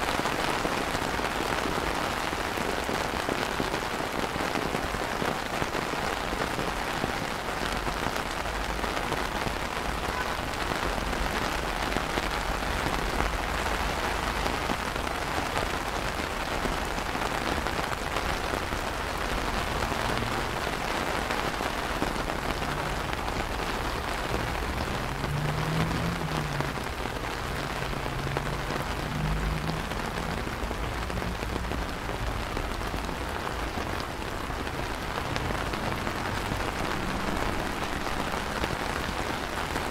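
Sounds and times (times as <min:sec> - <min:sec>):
rain on stone paving and plants: 0:00.0 - 0:39.9.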